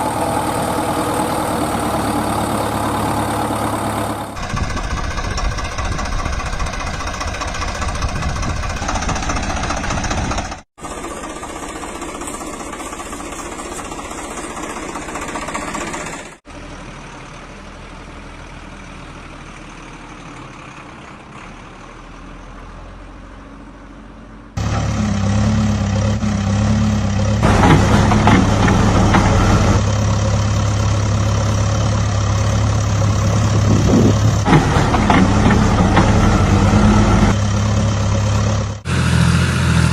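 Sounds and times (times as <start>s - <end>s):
heavy vehicle engines idling: 0.0s - 39.9s.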